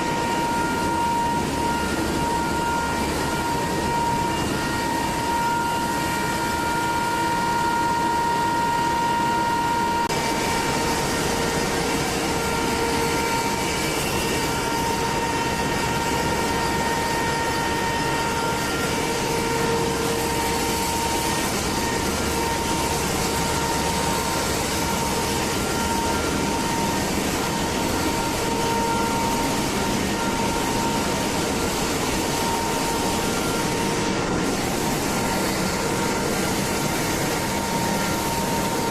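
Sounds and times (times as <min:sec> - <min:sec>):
machine running with high whine: 0:00.0 - 0:38.9.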